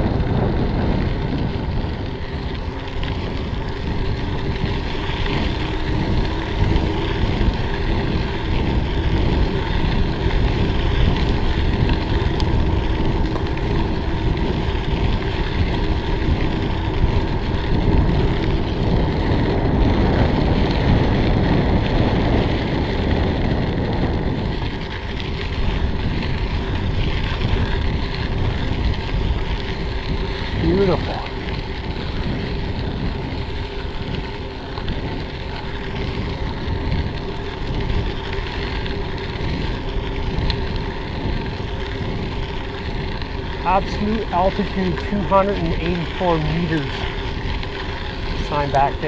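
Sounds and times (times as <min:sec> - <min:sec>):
bicycle tyres rolling on trail: 0:00.0 - 0:49.0
wind buffeting microphone: 0:00.0 - 0:49.0.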